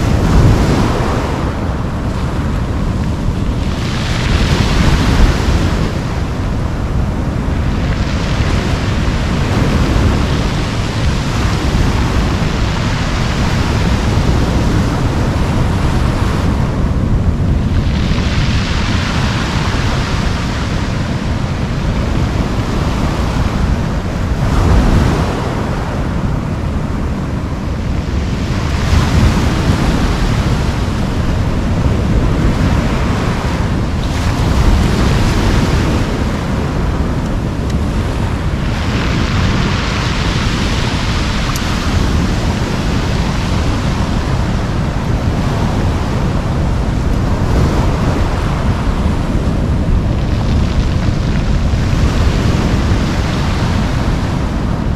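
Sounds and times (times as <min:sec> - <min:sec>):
surf breaking on cobble beach: 0:00.0 - 0:54.9
wind rumble on microphone: 0:00.0 - 0:54.9.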